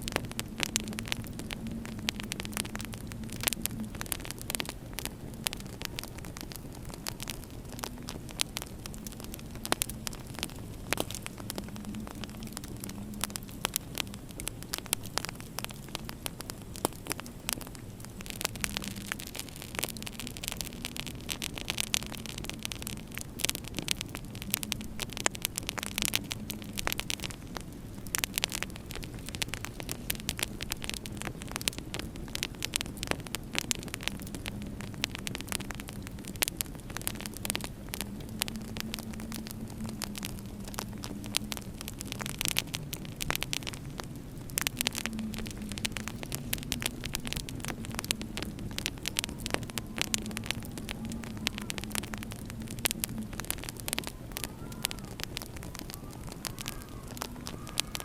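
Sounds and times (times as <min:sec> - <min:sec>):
low hum and hiss: 0:00.0 - 0:58.0
wood fire crackling and popping: 0:00.0 - 0:58.0.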